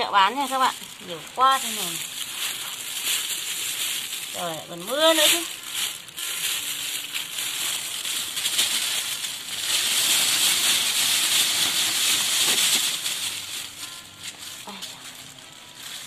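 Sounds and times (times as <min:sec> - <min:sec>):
plastic bag rustling: 0:00.0 - 0:16.0.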